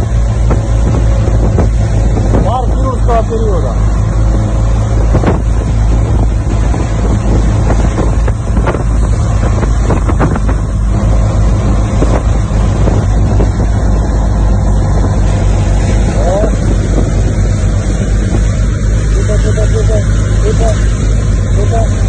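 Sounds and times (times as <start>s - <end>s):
motorboat engine running: 0.0s - 22.0s
wind buffeting microphone: 0.0s - 22.0s.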